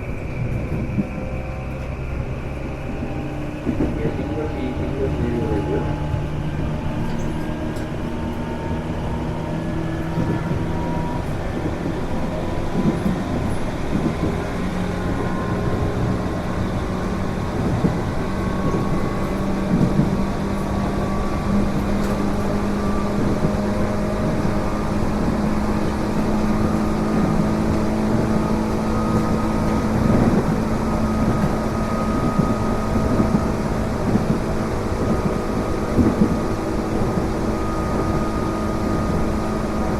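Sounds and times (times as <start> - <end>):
electric train rumble and motor whine: 0.0 - 39.9.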